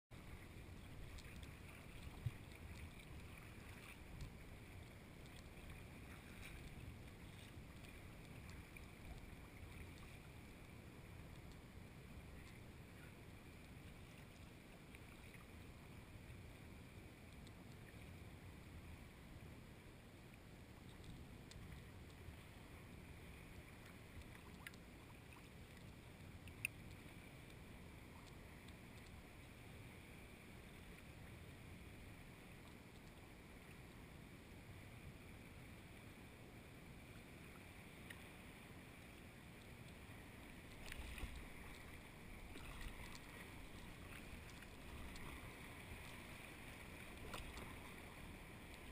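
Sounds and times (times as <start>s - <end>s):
kayak gliding through water: 0.1s - 48.9s
water swish: 0.1s - 48.9s.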